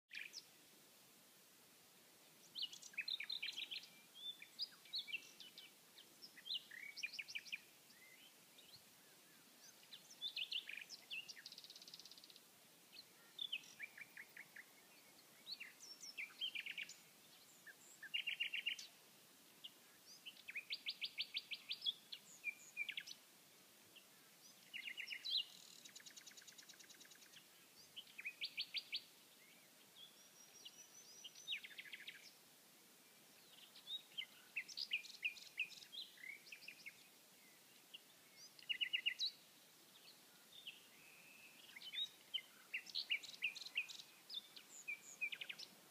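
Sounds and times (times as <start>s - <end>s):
nightingale singing: 0.1s - 0.6s, 2.4s - 23.3s, 23.9s - 32.4s, 33.0s - 45.9s.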